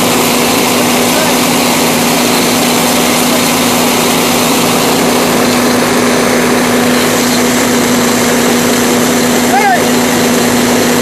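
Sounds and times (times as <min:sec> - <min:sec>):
fire engine pump droning: 0:00.0 - 0:11.0
water hiss: 0:00.0 - 0:11.0.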